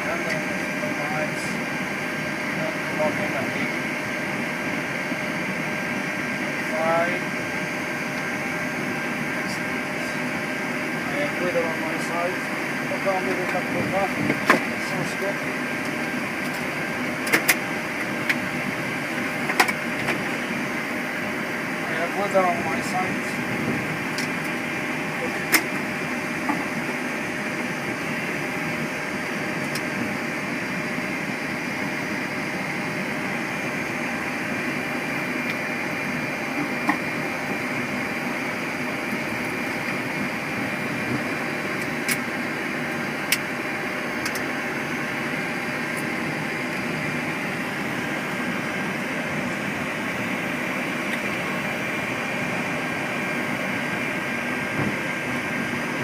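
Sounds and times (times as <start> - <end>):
engines and fans humming: 0.0 - 56.0.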